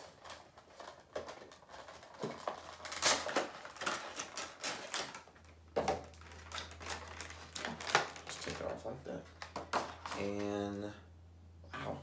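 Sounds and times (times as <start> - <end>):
cardboard and plastic wrap crinkling: 0.0 - 10.5.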